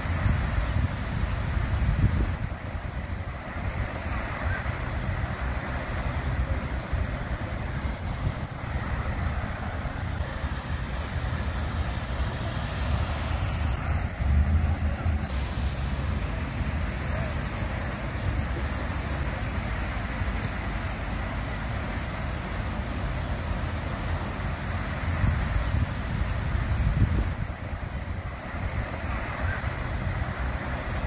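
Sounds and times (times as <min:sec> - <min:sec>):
water fountain splashing: 0:00.0 - 0:31.0
wind rumble on microphone: 0:00.0 - 0:31.0.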